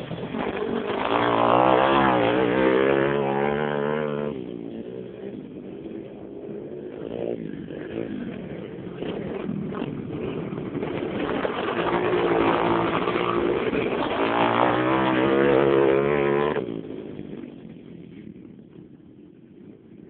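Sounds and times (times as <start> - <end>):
pit bike engine revving: 0.0 - 18.2.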